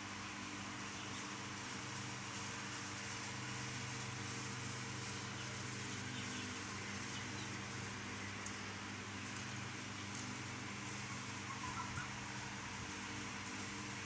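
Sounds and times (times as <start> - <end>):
mechanical hum with low drone: 0.0 - 14.0.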